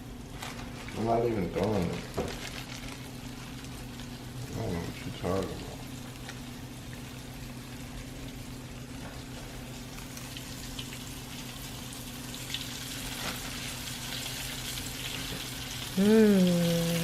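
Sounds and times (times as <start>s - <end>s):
chicken frying in hot oil: 0.0s - 17.0s
low steady hum: 0.0s - 17.0s.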